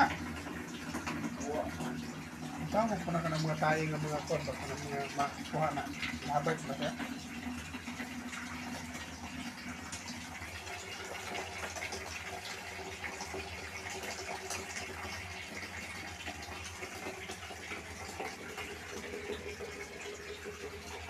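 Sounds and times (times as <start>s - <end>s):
water sloshing and gurgling in hose: 0.0s - 21.0s.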